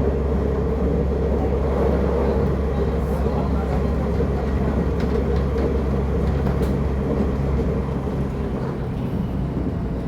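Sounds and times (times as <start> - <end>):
train rumble and motor hum: 0.0 - 10.0.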